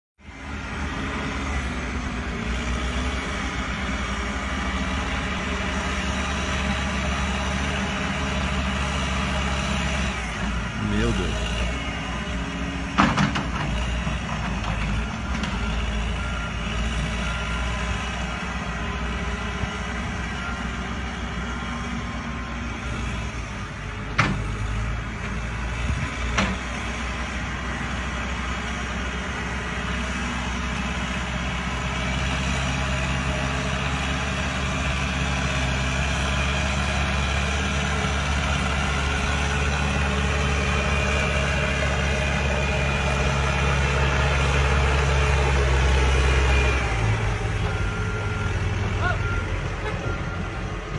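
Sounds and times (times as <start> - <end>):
truck engine running: 0.2 - 50.9.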